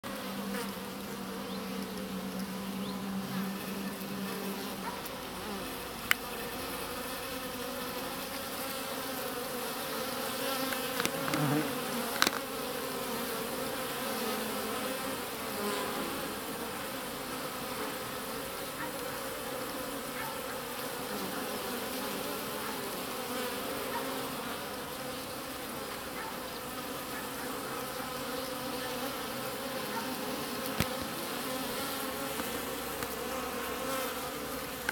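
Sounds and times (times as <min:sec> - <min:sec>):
honeybees buzzing: 0:00.0 - 0:34.9.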